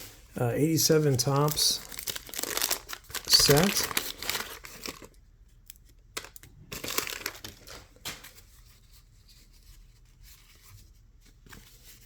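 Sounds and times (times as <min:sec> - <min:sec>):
waxed paper wrapper crinkling: 0:00.0 - 0:12.0.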